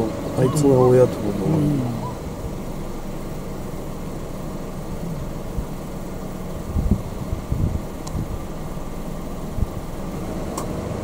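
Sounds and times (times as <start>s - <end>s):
low background rumble: 0.0s - 11.0s
dull low thumps: 1.1s - 10.0s.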